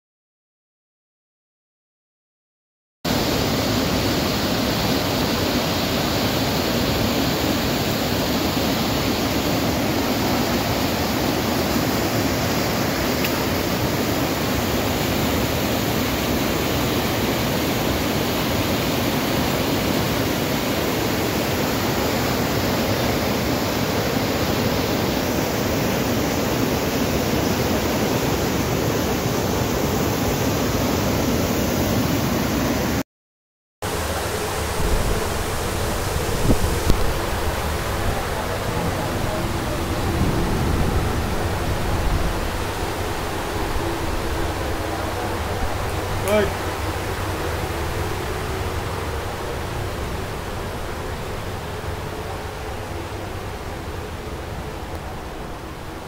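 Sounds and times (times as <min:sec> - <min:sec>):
floodwater rushing: 0:03.1 - 0:33.0, 0:33.8 - 0:56.0.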